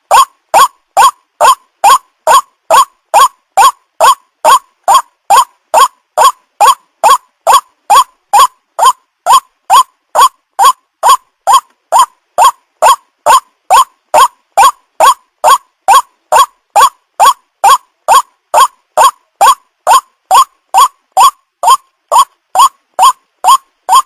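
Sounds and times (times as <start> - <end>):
waterhen calling: 0.1 - 24.0.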